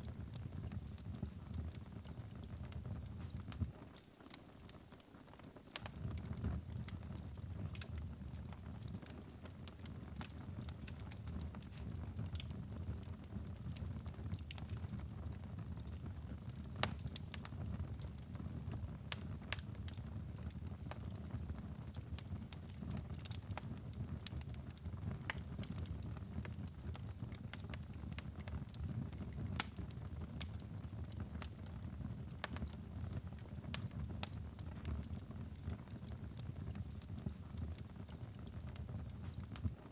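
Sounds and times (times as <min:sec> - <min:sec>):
logs crackling and popping: 0:00.1 - 0:39.9.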